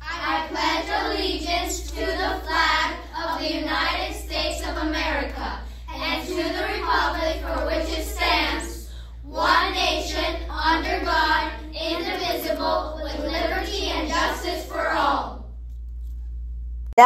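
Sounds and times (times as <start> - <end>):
children reciting in unison: 0.0 - 15.4
steady low hum: 0.0 - 17.0.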